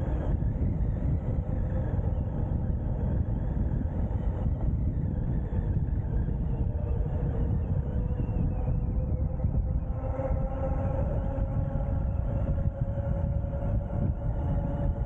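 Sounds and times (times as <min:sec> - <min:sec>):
faint steady whine: 0:00.0 - 0:15.0
wind buffeting microphone: 0:00.0 - 0:15.0.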